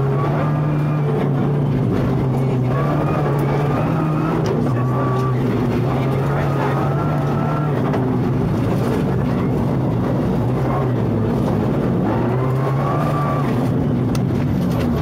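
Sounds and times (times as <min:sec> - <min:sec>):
rally car engine revving: 0:00.0 - 0:15.0
road noise: 0:00.0 - 0:15.0.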